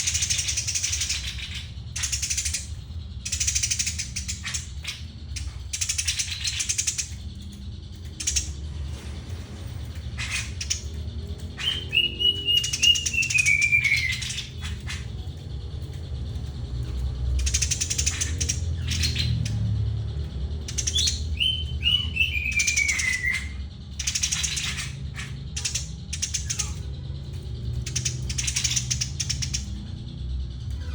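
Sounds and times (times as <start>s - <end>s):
sparrow chirping: 0.0s - 30.0s
steady low hum: 0.0s - 30.9s.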